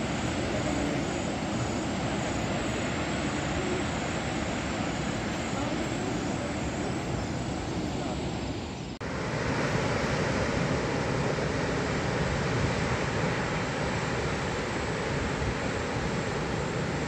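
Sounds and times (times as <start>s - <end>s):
water rushing from dam gates: 0.0s - 17.0s.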